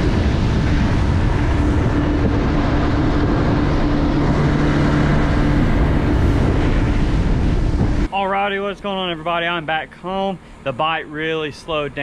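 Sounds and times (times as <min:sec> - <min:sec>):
outboard engine hum: 0:00.0 - 0:12.0
second lower engine hum: 0:00.0 - 0:12.0
wind and spray rushing: 0:00.0 - 0:12.0.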